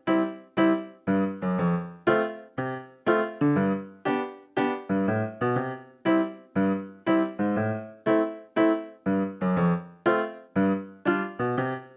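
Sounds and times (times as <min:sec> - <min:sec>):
keyboard notes and chords: 0:00.0 - 0:11.9.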